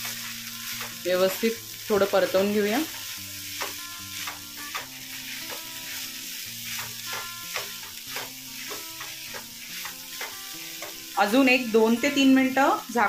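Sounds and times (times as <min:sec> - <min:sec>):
spatula scraping a pan: 0:00.0 - 0:12.3
food sizzling in a pan: 0:00.0 - 0:13.0.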